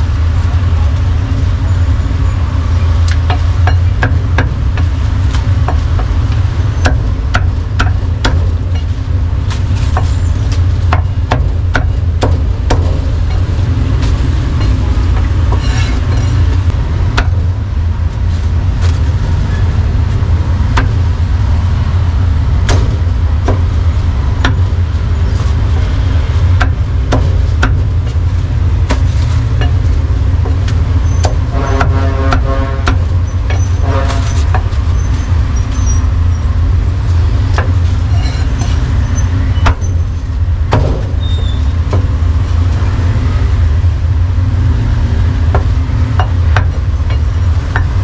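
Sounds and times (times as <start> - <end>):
street traffic rumble: 0.0 - 48.0.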